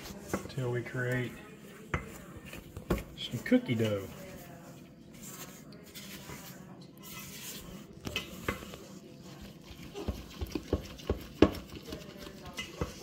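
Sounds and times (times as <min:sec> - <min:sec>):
spatula scraping dough in bowl: 0:00.0 - 0:13.0.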